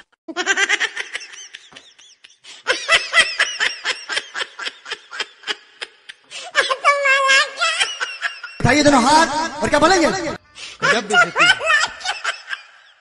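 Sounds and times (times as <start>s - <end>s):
high-pitched laughter: 0.0s - 8.7s, 10.8s - 13.0s.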